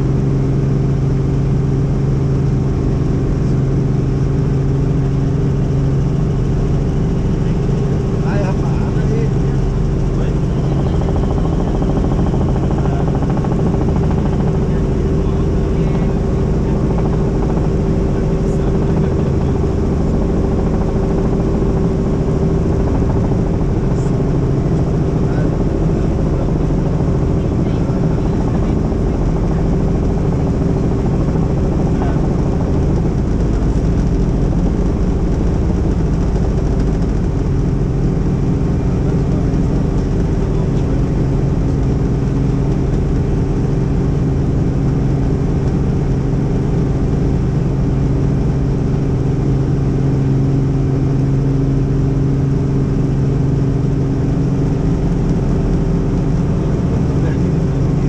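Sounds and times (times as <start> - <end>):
helicopter rotor and engine drone: 0.0 - 58.0
low hum: 0.0 - 58.0.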